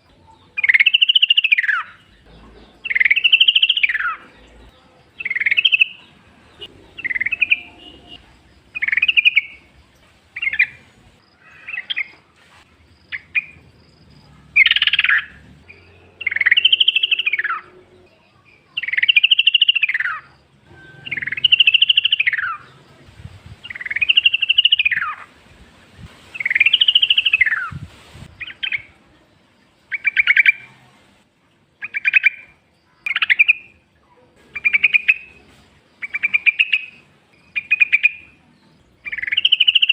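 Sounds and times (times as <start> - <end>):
bulbul singing: 0.0 - 12.2, 13.0 - 25.3, 26.4 - 30.8, 31.8 - 39.9.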